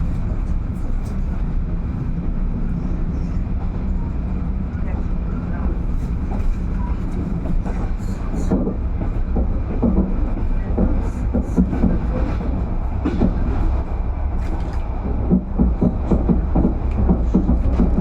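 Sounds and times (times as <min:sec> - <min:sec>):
train knocks and rattles: 0:00.0 - 0:18.0
train wheels rumbling on rails: 0:00.0 - 0:18.0.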